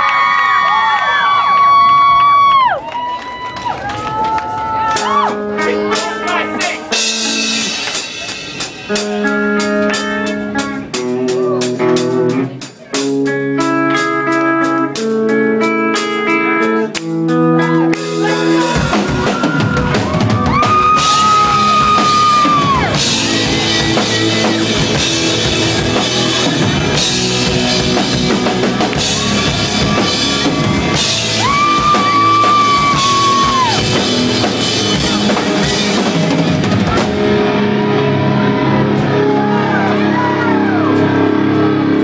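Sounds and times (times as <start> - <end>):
rock band playing live: 3.6 - 42.0
picked electric guitar notes: 4.9 - 42.0.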